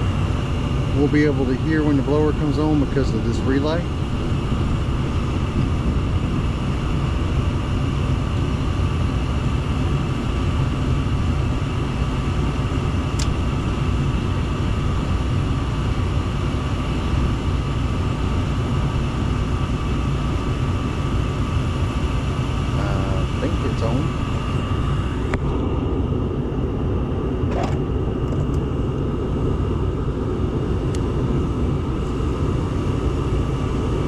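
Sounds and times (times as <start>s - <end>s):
faint steady whine: 0.0s - 34.0s
furnace motor low rumble: 0.0s - 34.0s.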